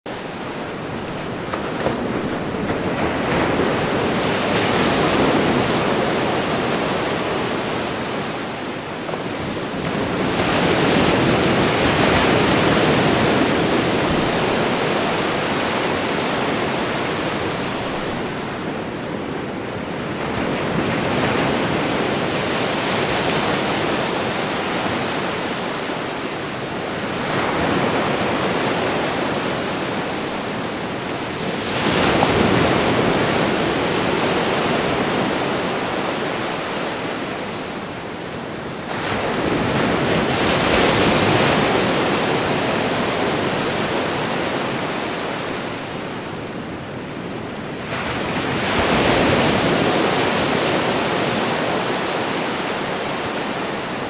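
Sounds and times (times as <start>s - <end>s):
ocean waves breaking: 0.1s - 54.0s
steady wash of surf: 0.1s - 54.0s.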